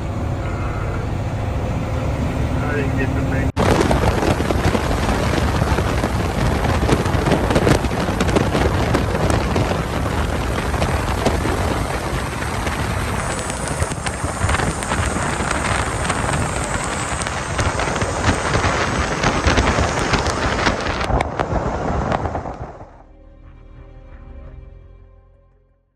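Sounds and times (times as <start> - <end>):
vehicle sounds: 0.0 - 23.0
wind buffeting microphone: 0.0 - 23.0.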